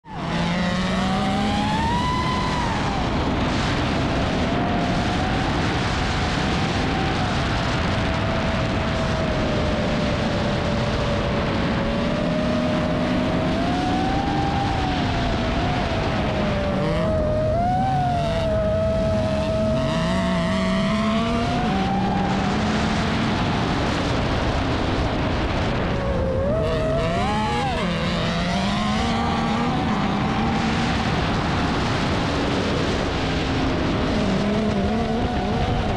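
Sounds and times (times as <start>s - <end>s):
buggy engine and tyre noise: 0.0s - 35.9s
drone propellers whining: 0.0s - 35.9s.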